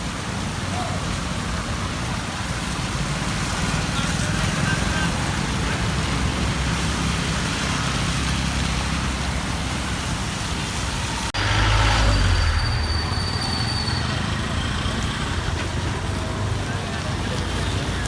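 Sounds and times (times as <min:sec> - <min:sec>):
heavy vehicle rumble: 0:00.0 - 0:18.0
traffic on wet road: 0:00.0 - 0:18.0.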